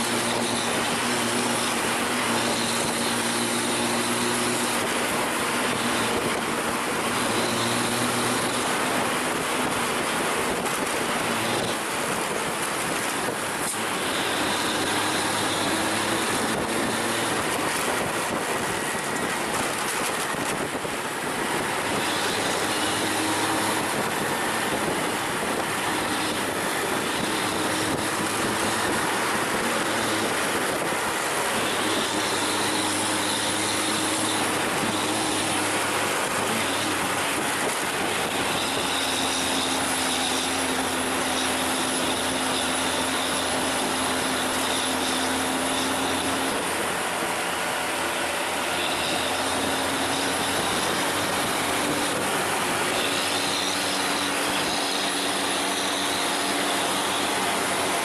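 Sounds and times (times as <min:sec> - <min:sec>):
road noise: 0:00.0 - 0:58.0
vehicle engine running under load: 0:00.0 - 0:58.0
wind noise: 0:00.0 - 0:58.0.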